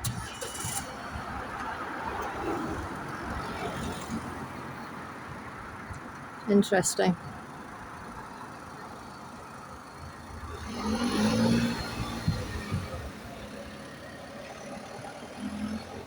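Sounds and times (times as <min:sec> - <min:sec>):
background traffic noise: 0:00.0 - 0:16.0.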